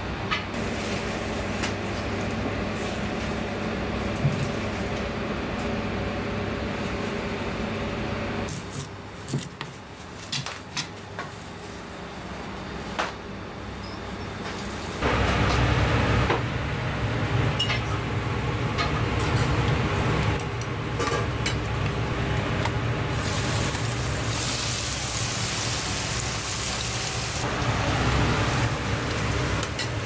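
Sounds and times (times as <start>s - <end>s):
kitchen background hum: 0.0s - 30.0s.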